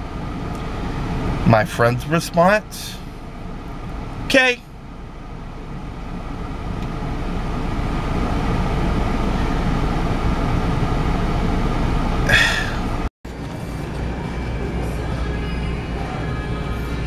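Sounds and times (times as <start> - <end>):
car cabin road and engine noise: 0.0 - 17.0.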